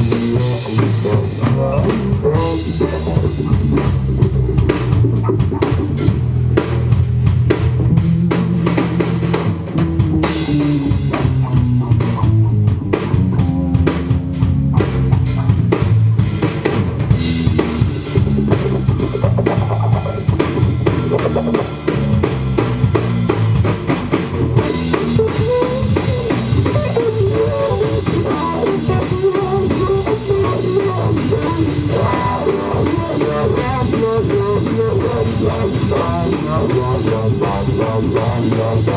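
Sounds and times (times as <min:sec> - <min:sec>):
bass line: 0:00.0 - 0:38.9
drum kit beat: 0:00.0 - 0:38.9
guitar: 0:00.0 - 0:38.9.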